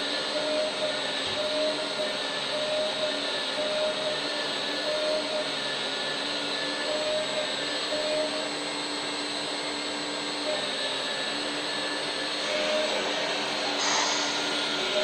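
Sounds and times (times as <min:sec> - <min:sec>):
electric hydraulic pump whirring: 0:00.0 - 0:15.0.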